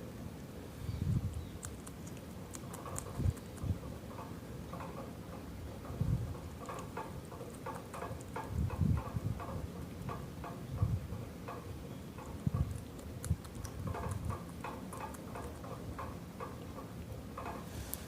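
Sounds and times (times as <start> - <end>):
rabbit chewing: 1.0 - 18.0.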